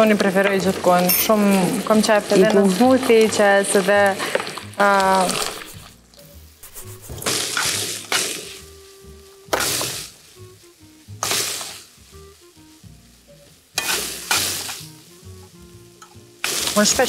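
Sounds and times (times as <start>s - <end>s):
quiet background music: 0.0s - 17.0s
vegetables sizzling in a frying pan: 0.0s - 17.0s.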